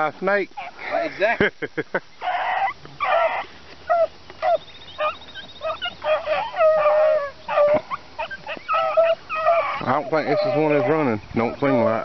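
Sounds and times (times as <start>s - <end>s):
hounds baying and yelping: 0.6s - 1.2s, 2.2s - 12.0s.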